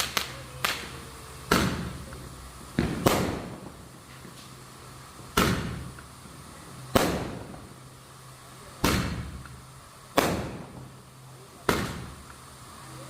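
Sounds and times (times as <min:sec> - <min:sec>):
firecracker bangs: 0:00.0 - 0:07.9, 0:08.7 - 0:11.0, 0:11.6 - 0:12.5.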